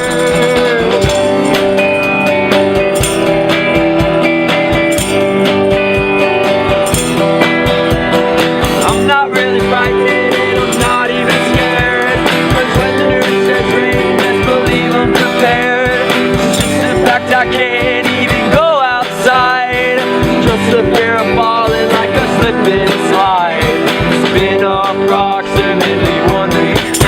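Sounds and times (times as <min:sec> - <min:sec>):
guitar: 0:00.0 - 0:27.0
live band playing: 0:00.0 - 0:27.0
steady beat: 0:00.0 - 0:27.0.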